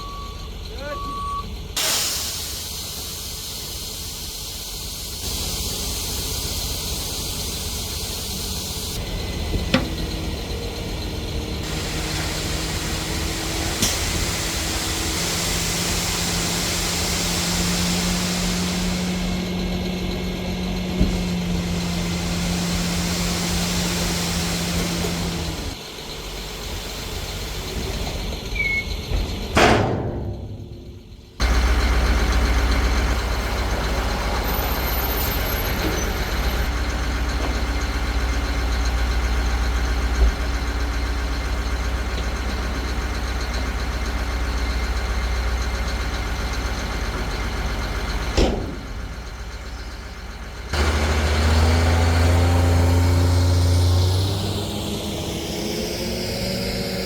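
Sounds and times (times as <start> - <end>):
heavy equipment diesel engines: 0.0 - 57.0.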